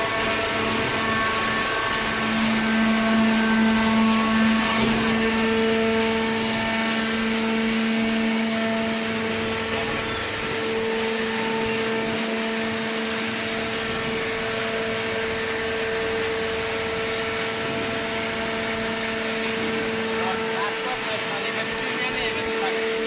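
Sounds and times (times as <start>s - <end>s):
hydraulic baler humming: 0.0s - 23.0s.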